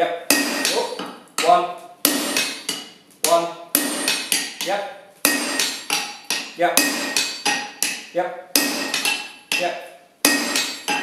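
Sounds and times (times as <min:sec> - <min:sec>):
sledgehammer striking metal tool: 0:00.3 - 0:11.0.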